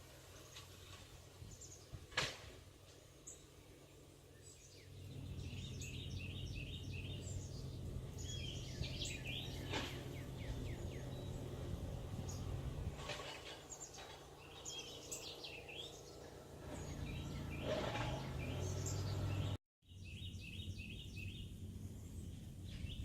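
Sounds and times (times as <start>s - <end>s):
birds chirping: 0.3s - 2.1s, 3.0s - 23.0s.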